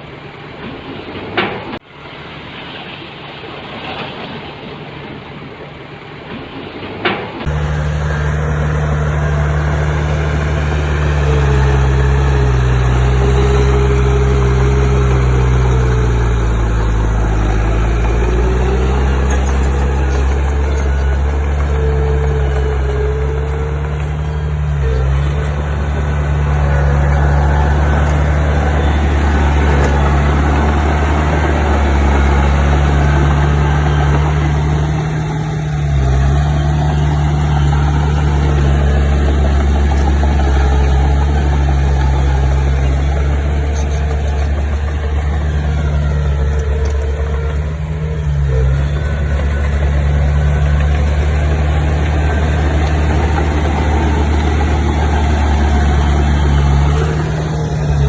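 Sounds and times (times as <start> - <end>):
diesel engine of construction equipment: 0.0 - 58.0.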